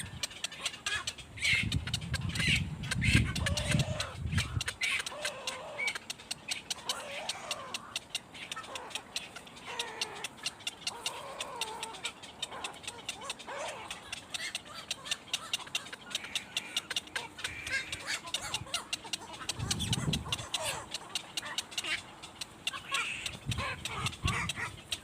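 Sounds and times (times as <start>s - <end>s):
bird calls: 0.0s - 25.0s
rapid sharp clicks: 0.1s - 25.0s.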